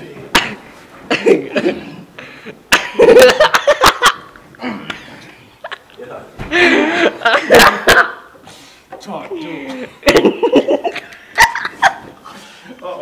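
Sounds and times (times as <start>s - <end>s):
boys laughing and snickering: 1.0s - 8.5s, 9.1s - 13.0s.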